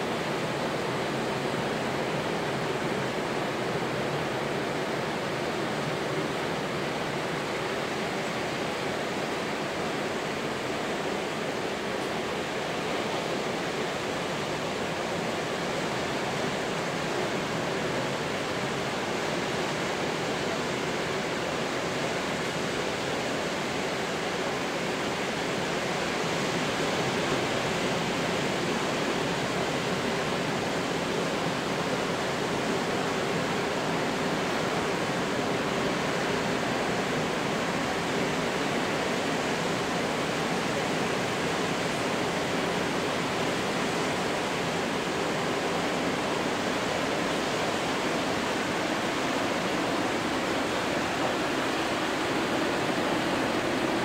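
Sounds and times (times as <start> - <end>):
ocean surf on rocky shore: 0.0 - 54.0.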